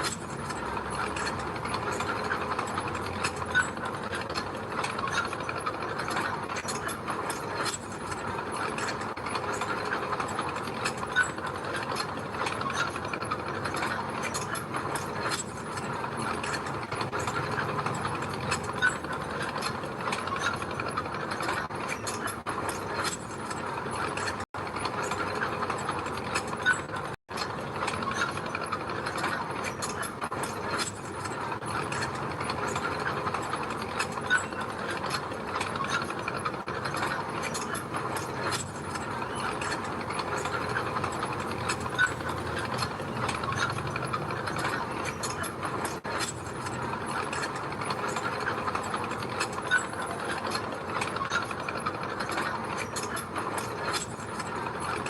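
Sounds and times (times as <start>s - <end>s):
crawler tracks clattering: 0.0s - 55.0s.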